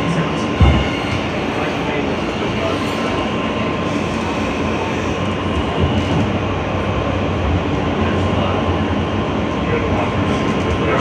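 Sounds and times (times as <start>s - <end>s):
subway car rumbling in tunnel: 0.0s - 11.0s.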